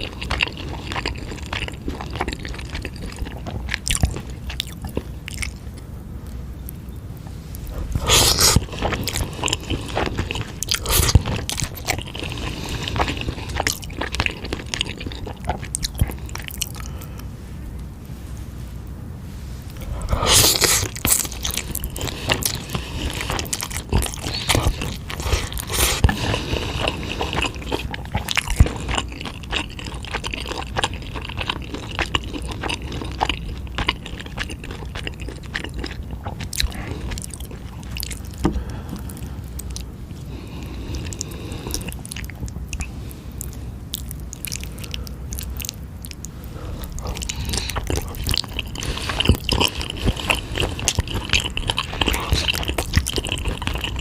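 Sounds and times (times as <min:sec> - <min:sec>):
person chewing noodles: 0:00.0 - 0:06.7, 0:07.3 - 0:17.3, 0:19.6 - 0:54.0.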